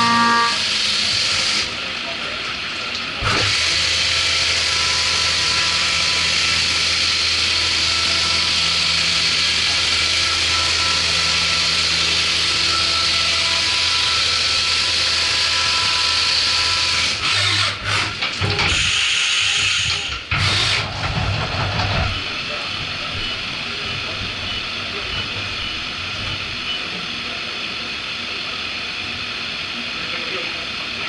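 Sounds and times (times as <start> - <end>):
cnc mill spindle and coolant hiss: 0.0 - 21.0, 22.0 - 31.0.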